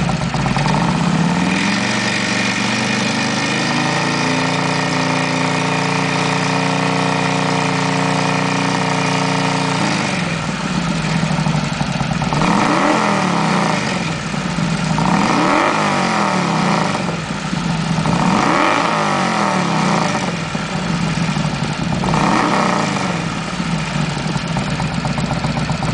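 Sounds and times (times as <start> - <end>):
motorcycle engine idling: 0.0 - 25.9
motorcycle engine revving: 0.0 - 25.9.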